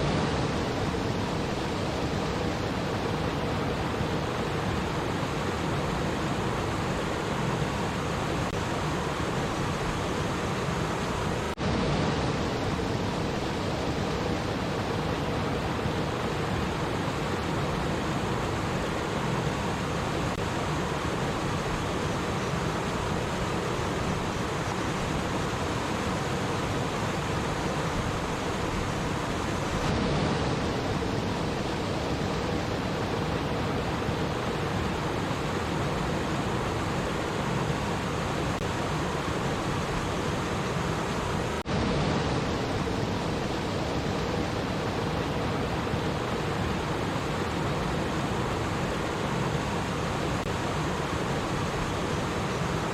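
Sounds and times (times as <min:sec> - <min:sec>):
stream water babbling: 0:00.0 - 0:52.9.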